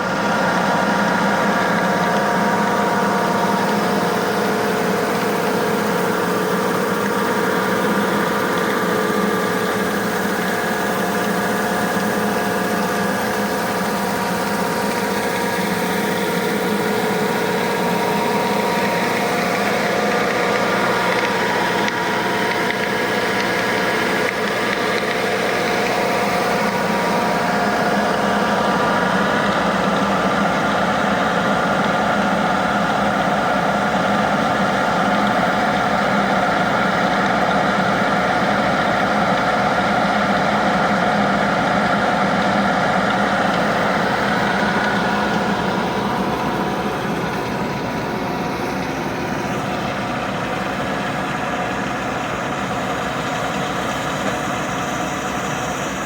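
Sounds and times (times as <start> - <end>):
engine droning steadily: 0.0 - 56.0.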